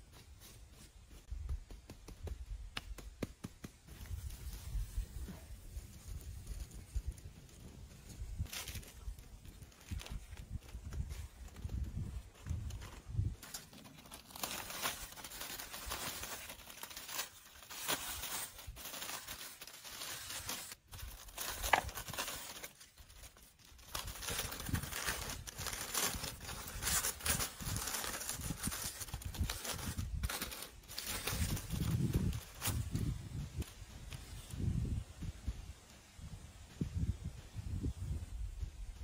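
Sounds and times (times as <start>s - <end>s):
rustling and crinkling: 0.0s - 36.1s.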